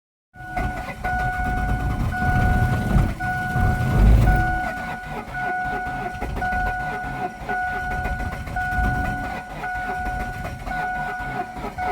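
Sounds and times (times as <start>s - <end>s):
car engine cranking: 0.4s - 11.9s
car warning chime: 0.4s - 11.9s.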